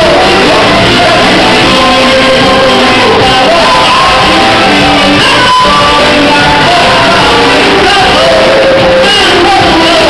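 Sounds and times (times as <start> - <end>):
men singing through pa system: 0.0 - 10.0.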